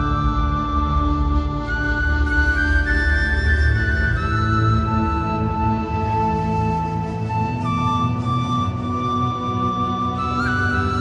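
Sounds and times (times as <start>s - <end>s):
slow melodic background music: 0.0s - 11.0s.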